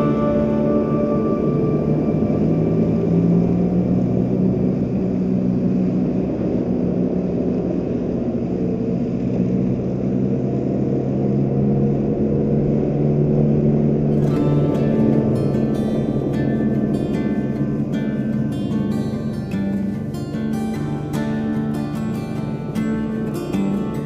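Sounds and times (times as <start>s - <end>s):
motorcycle engine running: 0.0s - 24.0s
road noise rushing: 0.0s - 24.0s.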